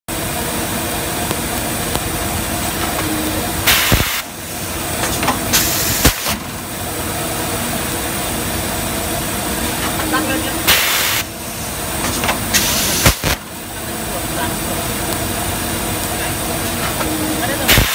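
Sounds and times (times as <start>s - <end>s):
loud hisses: 0.1s - 17.9s
machine running steadily: 0.1s - 17.9s.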